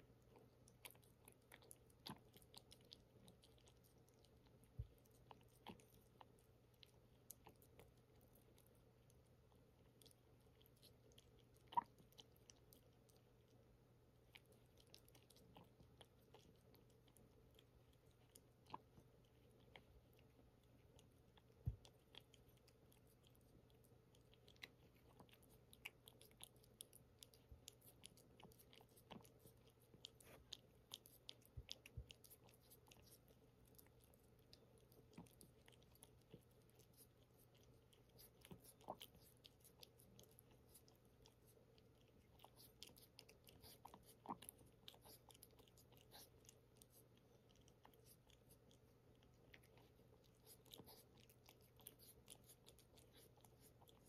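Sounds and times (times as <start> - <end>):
cat chewing: 0.0 - 54.0.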